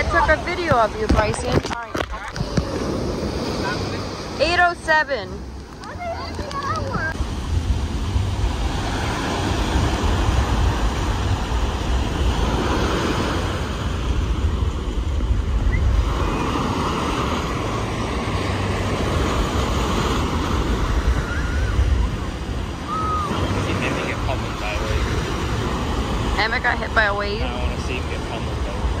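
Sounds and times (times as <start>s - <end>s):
ocean surf breaking: 0.0s - 29.0s
wind rumbling on microphone: 0.0s - 29.0s.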